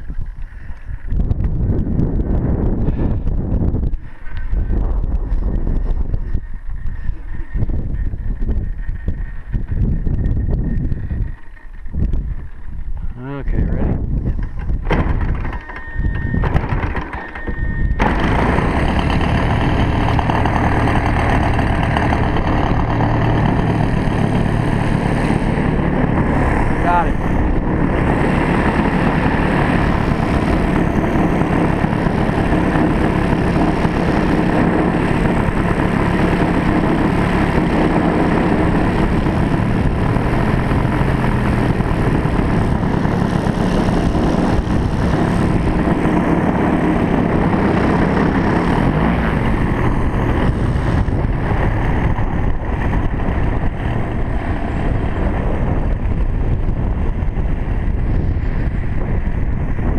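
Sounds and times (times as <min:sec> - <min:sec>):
model plane engine running: 0:03.8 - 0:59.9.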